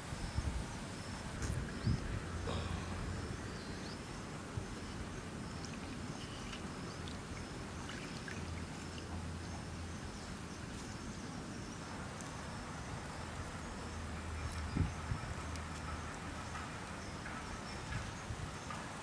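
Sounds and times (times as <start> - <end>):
steady background hiss: 0.0 - 19.0
faint bird or insect chirps: 0.1 - 18.8.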